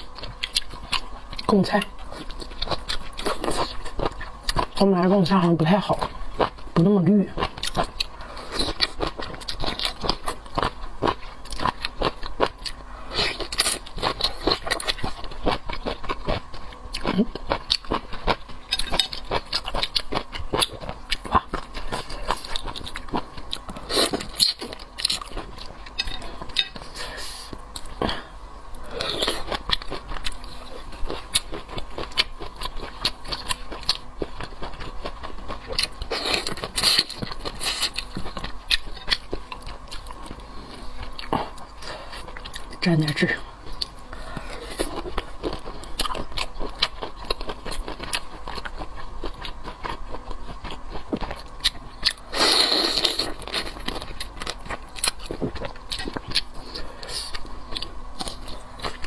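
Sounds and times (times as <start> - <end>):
chewing and biting food: 0.0 - 59.0.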